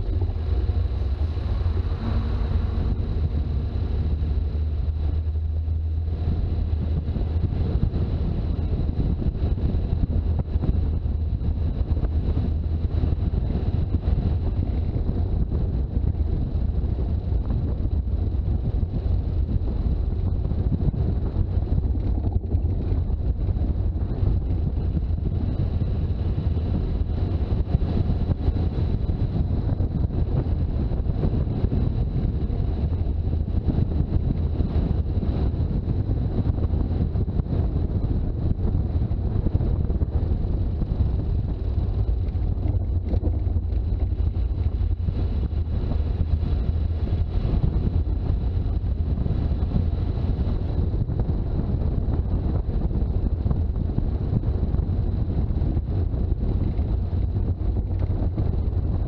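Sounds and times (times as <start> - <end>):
diesel engine rumbling: 0.0 - 59.0
road noise: 0.0 - 59.0
wind buffeting microphone: 0.0 - 59.0.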